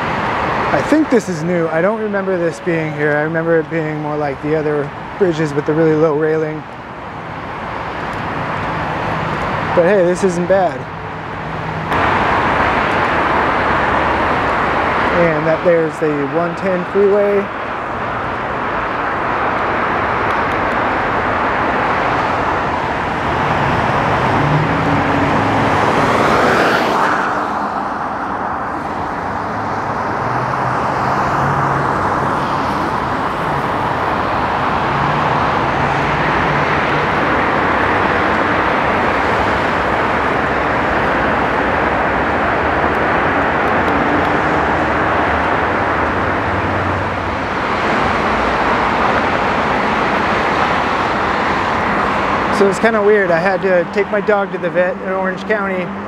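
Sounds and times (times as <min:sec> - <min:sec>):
freeway traffic: 0:00.0 - 0:56.0.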